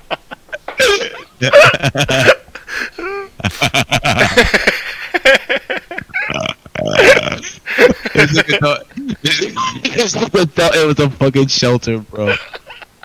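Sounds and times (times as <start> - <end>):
men laughing: 0.0 - 10.4, 12.2 - 13.0.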